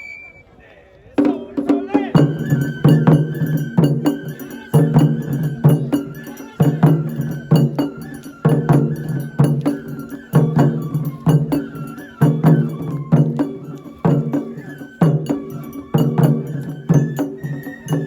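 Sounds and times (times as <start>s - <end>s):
high held flute: 0.0s - 0.6s, 1.3s - 18.0s
drum and bell strikes: 1.2s - 18.0s.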